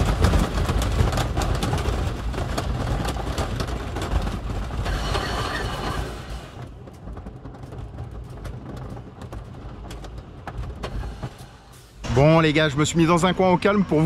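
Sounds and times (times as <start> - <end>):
roller coaster train rattling: 0.0 - 14.0.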